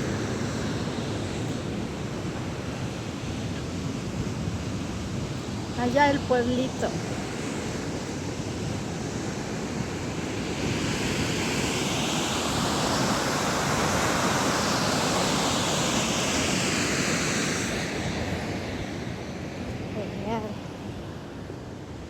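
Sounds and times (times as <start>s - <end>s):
river and waterfall rushing: 0.0s - 18.6s.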